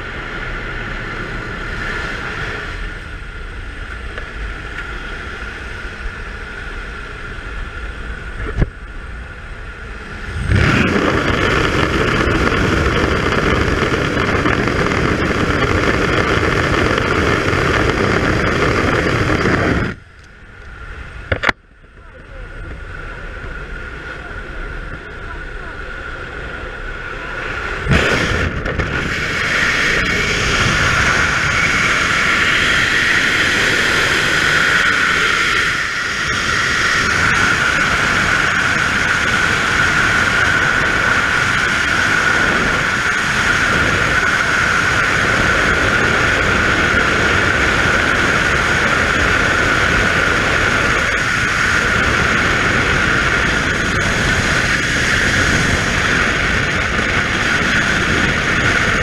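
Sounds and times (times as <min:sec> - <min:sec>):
aircraft noise: 0:00.0 - 0:59.0.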